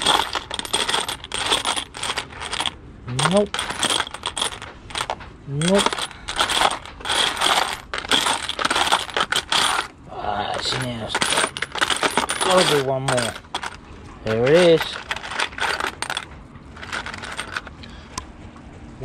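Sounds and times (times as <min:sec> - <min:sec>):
metal screws rattling in plastic box: 0:00.0 - 0:10.0, 0:10.6 - 0:17.7.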